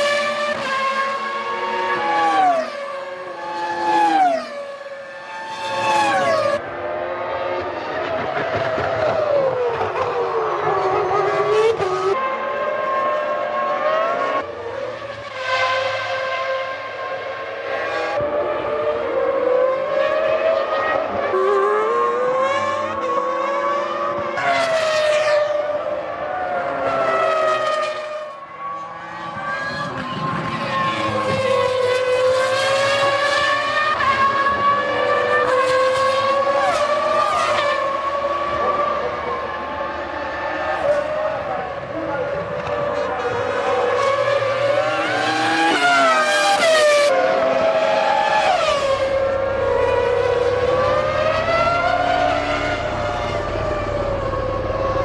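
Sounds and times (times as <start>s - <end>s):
racing car engines at high revs: 0.0s - 55.0s
racing car passing close: 0.0s - 55.0s.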